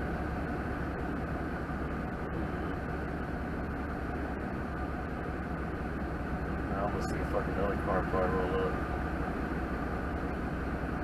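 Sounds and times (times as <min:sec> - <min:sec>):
truck engine low drone: 0:00.0 - 0:11.0.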